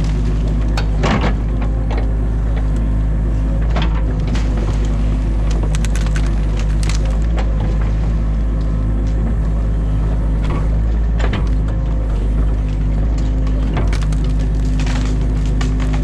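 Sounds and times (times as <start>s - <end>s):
branches cracking and snapping: 0.0s - 2.9s, 3.6s - 9.2s, 11.2s - 16.0s
excavator diesel engine running: 0.0s - 16.0s.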